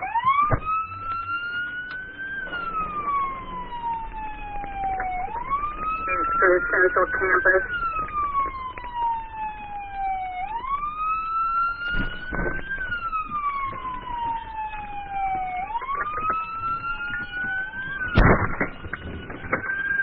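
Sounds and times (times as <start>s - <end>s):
police sirens wailing: 0.0s - 20.0s.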